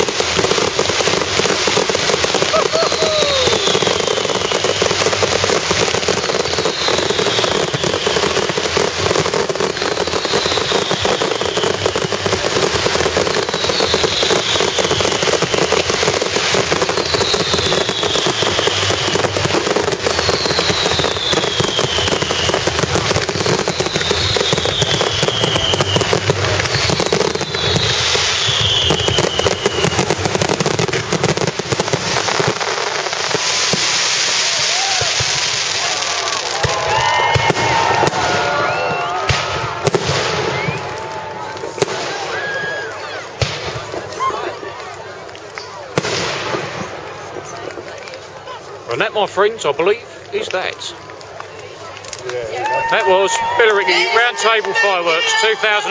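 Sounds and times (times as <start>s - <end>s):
falling firework whistle: 0.0s - 44.9s, 52.5s - 55.9s
fireworks bangs and crackling: 0.0s - 55.9s.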